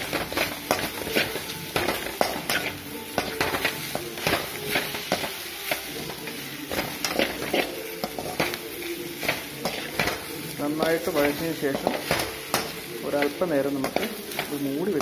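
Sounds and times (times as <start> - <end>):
frying sizzle: 0.0 - 15.0.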